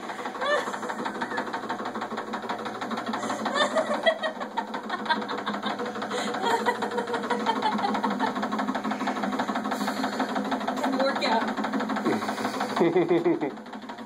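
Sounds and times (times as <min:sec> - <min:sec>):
vibrating belt machine rattling: 0:00.0 - 0:14.0.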